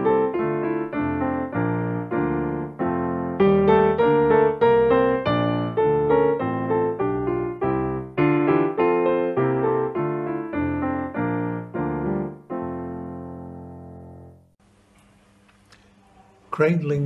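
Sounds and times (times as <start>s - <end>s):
piano playing hymn chords: 0.0s - 14.6s.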